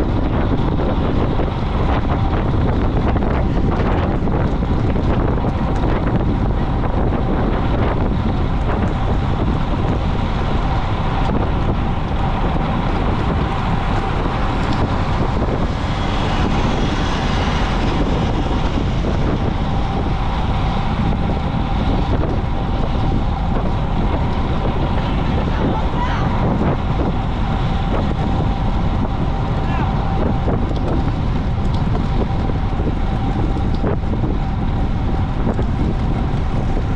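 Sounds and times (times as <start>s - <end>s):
wind noise on microphone: 0.0s - 36.9s.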